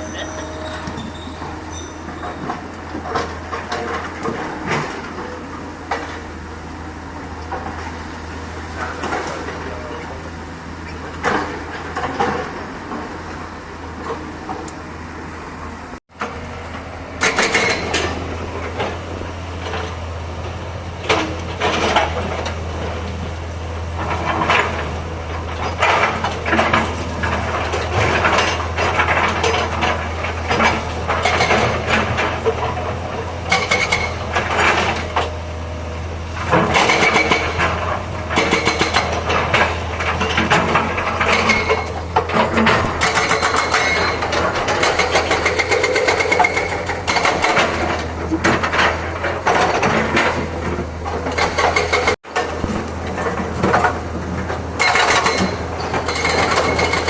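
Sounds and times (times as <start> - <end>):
machine clanks and knocks: 0.0 - 6.3, 11.0 - 13.2, 17.2 - 23.2, 23.9 - 35.5, 36.3 - 57.0
diesel engine running: 0.0 - 57.0.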